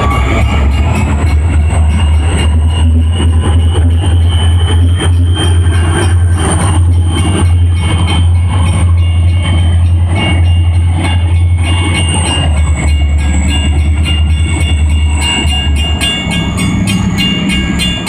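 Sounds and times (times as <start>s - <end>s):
freight train rumbling past: 0.0s - 18.0s
high-pitched squeal: 0.0s - 18.0s.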